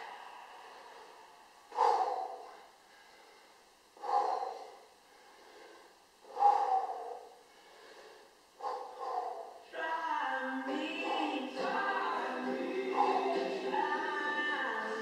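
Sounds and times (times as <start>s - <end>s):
man breathing heavily: 0.0s - 9.6s, 10.7s - 15.0s.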